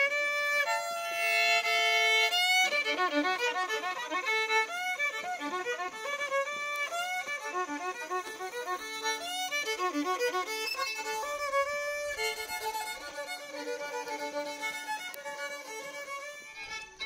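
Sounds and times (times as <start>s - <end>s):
violin playing: 0.0s - 17.0s.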